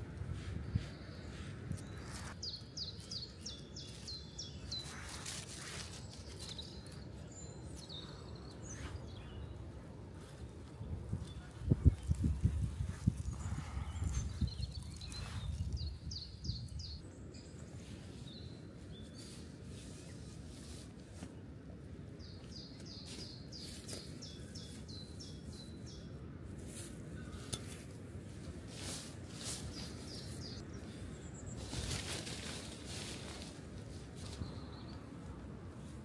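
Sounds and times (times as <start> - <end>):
songbird singing: 0.0 - 26.4, 27.0 - 36.0
rustling of leaves and tent fabric: 0.0 - 36.0.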